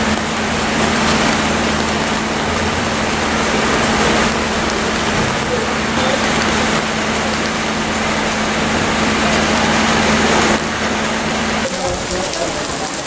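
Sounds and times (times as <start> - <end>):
heavy rain on water: 0.0 - 13.0.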